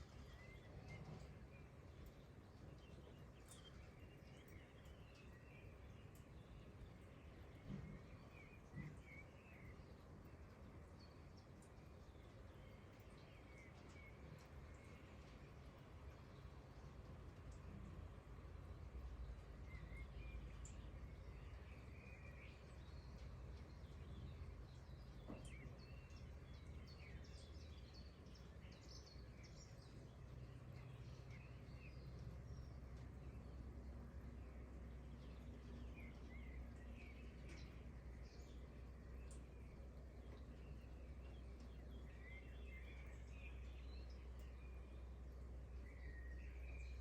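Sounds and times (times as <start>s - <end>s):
low background rumble: 0.0s - 47.0s
low steady background hiss: 0.0s - 47.0s
small birds chirping: 0.0s - 47.0s.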